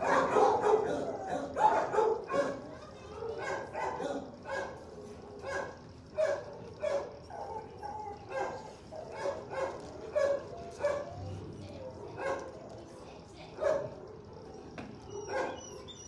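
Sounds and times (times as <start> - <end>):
dog barking: 0.0 - 11.3, 12.0 - 12.6, 13.5 - 15.9.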